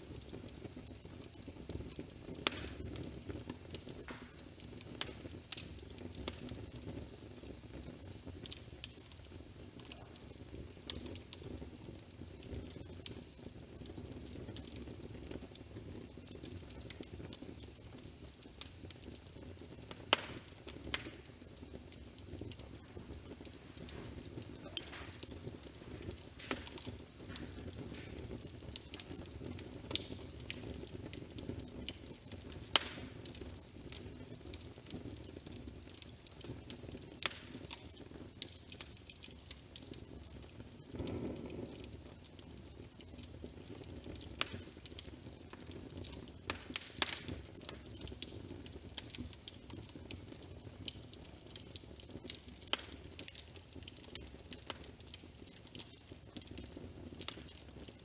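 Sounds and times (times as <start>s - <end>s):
fireplace crackling: 0.0s - 58.0s.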